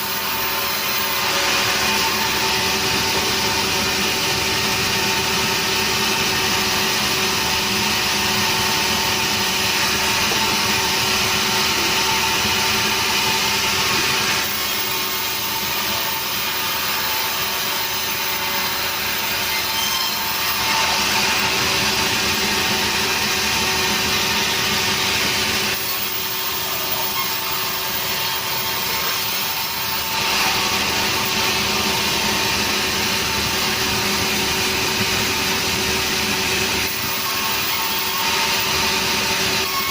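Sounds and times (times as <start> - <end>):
sawmill machine hum: 0.0 - 39.9.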